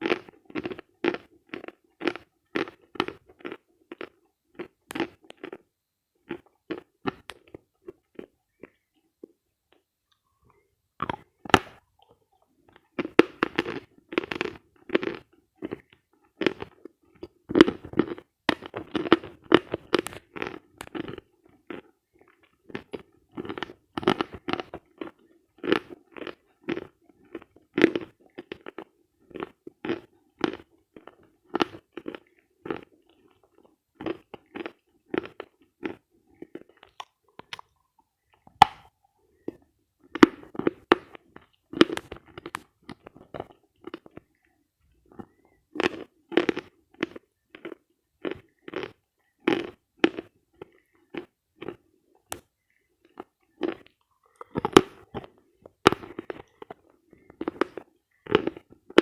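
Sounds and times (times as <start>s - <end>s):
chewing and crunching chalk: 0.0s - 59.0s.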